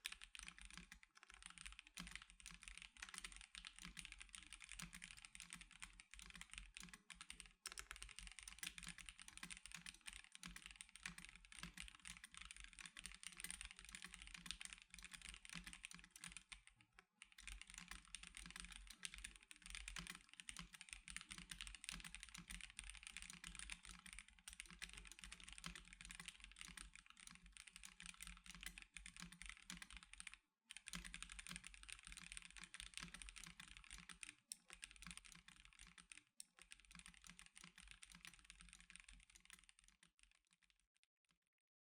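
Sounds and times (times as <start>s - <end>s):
fast typing on mechanical keyboard: 0.0s - 40.8s.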